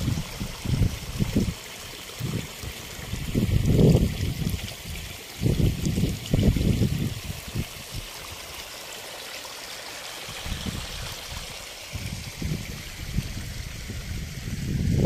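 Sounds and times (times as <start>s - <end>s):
water gushing from pipe: 0.0s - 15.0s.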